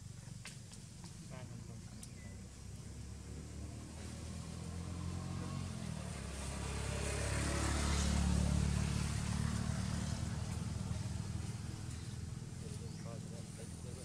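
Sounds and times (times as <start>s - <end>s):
vehicle engine passing by: 1.3s - 14.0s.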